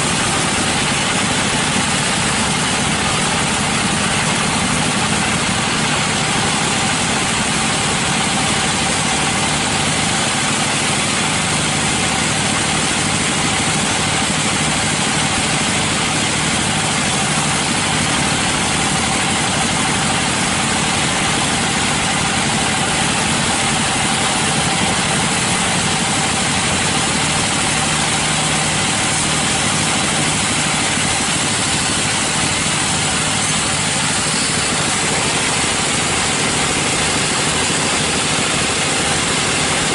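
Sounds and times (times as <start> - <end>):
engine drone: 0.0 - 39.9
machine whine: 0.0 - 39.9.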